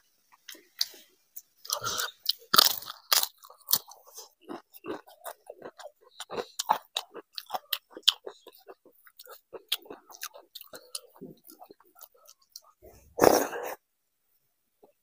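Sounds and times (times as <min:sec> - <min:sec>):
person chewing crunchy food: 0:00.5 - 0:13.8.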